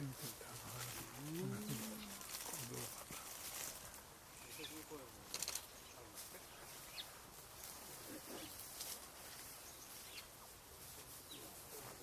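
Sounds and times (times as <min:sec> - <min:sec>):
dry leaves rustling: 0:00.0 - 0:12.0.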